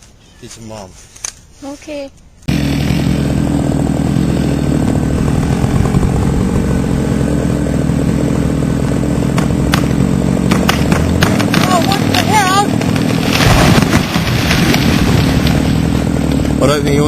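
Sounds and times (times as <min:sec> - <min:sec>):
engine running steadily: 0:02.5 - 0:17.0.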